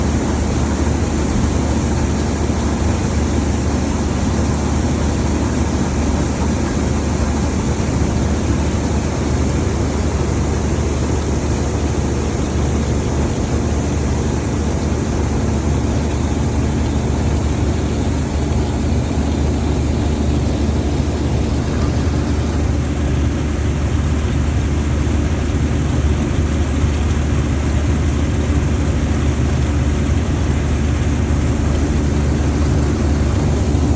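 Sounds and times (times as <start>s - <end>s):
combine harvester engine drone: 0.0s - 33.9s.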